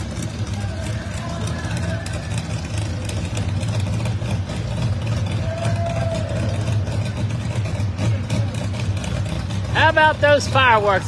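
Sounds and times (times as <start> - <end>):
race car engines idling: 0.0 - 11.0.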